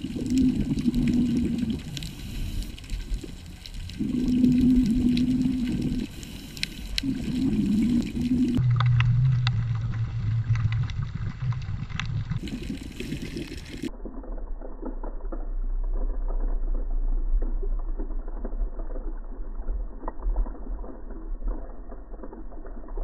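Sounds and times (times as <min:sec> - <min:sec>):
underwater bubbles gurgling: 0:00.0 - 0:23.0.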